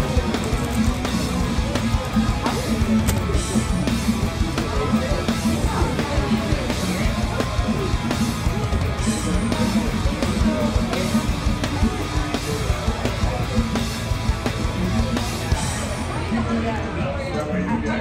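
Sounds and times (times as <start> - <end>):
rock music with drums and guitar: 0.0 - 17.0.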